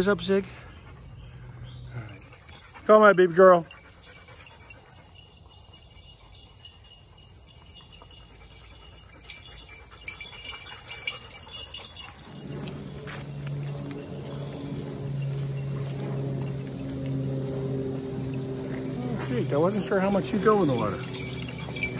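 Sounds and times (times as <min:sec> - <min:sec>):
insects chirring: 0:00.0 - 0:21.9
light clicks and jingles: 0:01.6 - 0:21.9.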